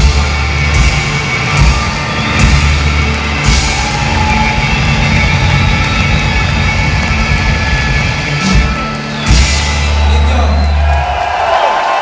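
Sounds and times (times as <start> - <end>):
rock band playing live: 0.0 - 11.5.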